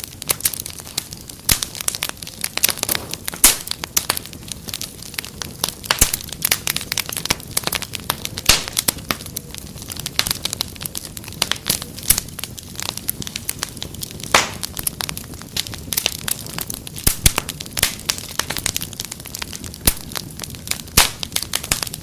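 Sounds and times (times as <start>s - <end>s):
fire crackling and popping: 0.0s - 22.0s
low rush of flames: 0.0s - 22.0s.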